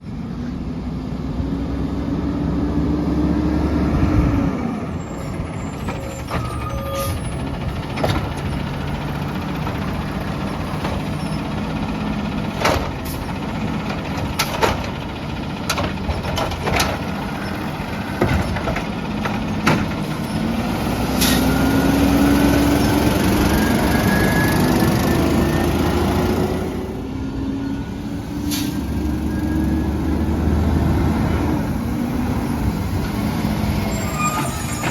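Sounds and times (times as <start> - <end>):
truck engine revving: 1.2 - 34.9.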